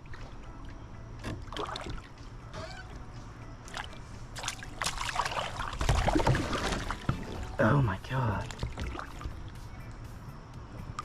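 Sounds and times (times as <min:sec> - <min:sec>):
water splashing against kayak: 0:00.0 - 0:03.0, 0:03.6 - 0:09.7.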